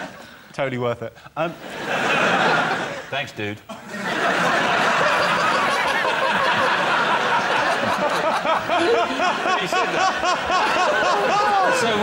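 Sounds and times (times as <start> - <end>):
studio audience laughing: 1.6 - 3.1, 3.7 - 12.0.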